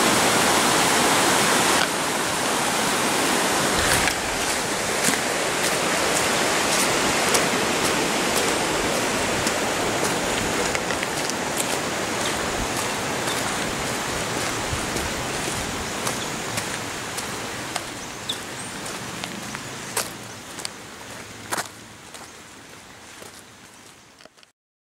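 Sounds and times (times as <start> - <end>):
water rushing over rocks: 0.0 - 24.4
footsteps on gravel: 3.7 - 24.5.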